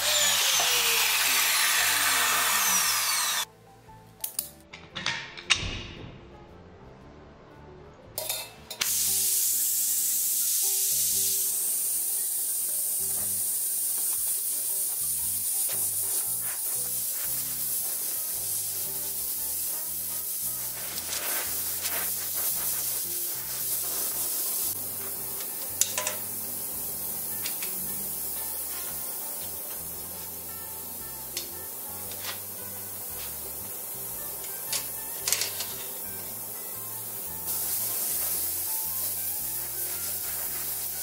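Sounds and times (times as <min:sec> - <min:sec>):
torch flame hissing: 0:00.0 - 0:03.5, 0:08.8 - 0:41.0.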